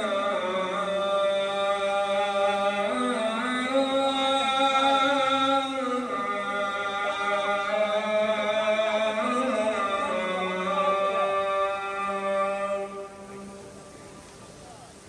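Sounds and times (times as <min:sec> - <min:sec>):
man chanting call to prayer: 0:00.0 - 0:15.0.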